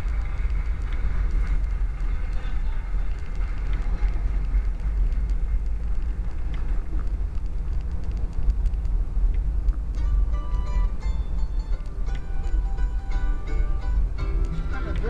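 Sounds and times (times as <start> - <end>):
faint clicks: 0.0 - 15.0.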